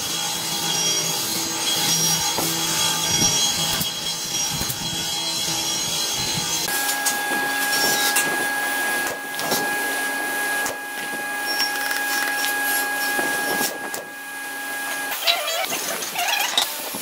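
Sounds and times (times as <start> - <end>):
steady high-pitched hum: 0.0 - 15.6.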